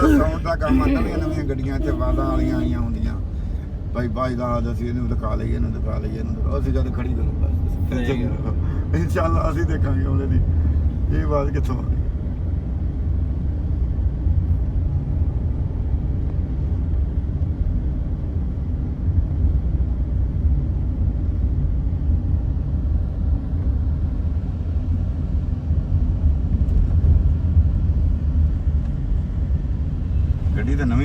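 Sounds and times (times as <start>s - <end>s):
car engine low rumble: 0.0s - 31.0s.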